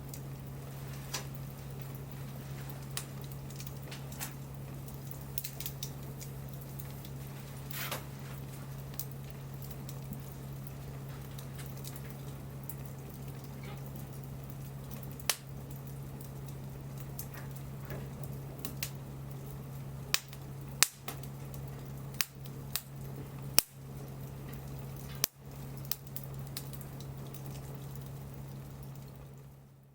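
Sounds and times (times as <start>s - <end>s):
bonfire crackling pops and snaps: 0.0s - 29.9s
steady low hum: 0.0s - 29.9s.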